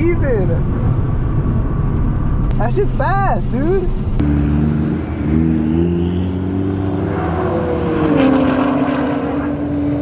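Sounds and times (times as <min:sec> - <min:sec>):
car engines droning at speed: 0:00.0 - 0:10.0.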